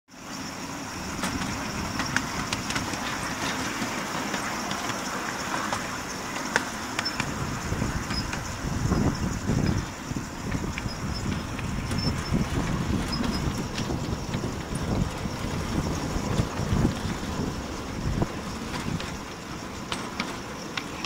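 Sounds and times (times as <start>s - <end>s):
miniature train rolling on track: 0.1s - 21.0s
wheels clicking over rail joints: 0.2s - 21.0s.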